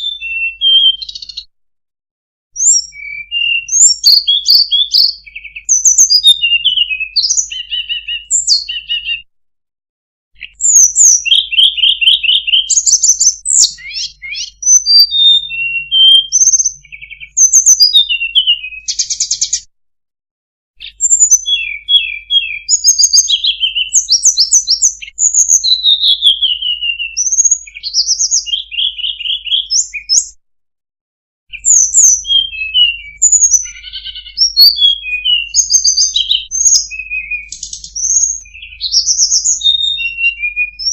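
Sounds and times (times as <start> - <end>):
songbird chirps and trills: 0.0 - 1.5, 2.6 - 9.2, 10.4 - 19.7, 20.8 - 30.4, 31.5 - 40.9.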